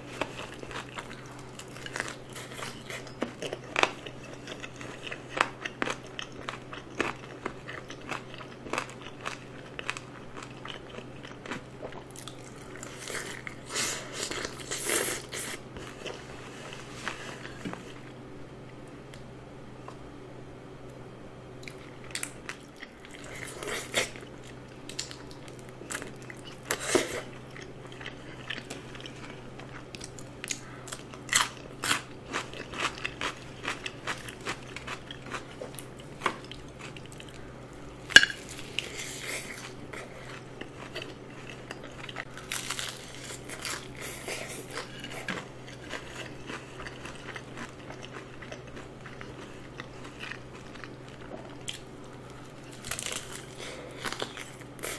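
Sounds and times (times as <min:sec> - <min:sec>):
crunching and chewing fried chicken: 0:00.0 - 0:19.3, 0:21.5 - 0:54.9
faint low hum: 0:00.0 - 0:54.9.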